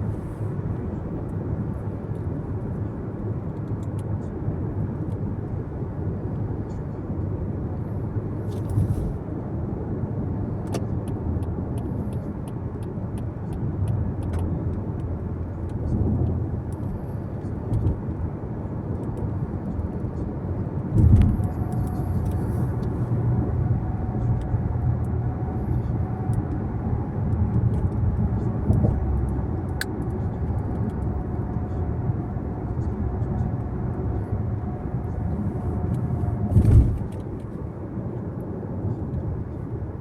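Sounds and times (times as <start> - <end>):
car tyre and road noise: 0.0 - 40.0.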